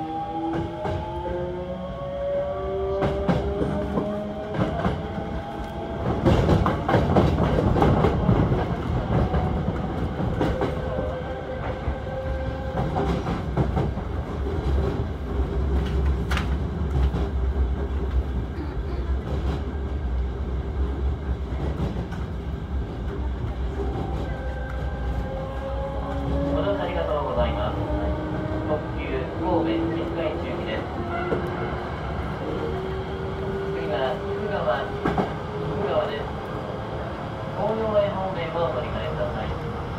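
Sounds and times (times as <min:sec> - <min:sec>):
train rumble: 0:00.0 - 0:39.9.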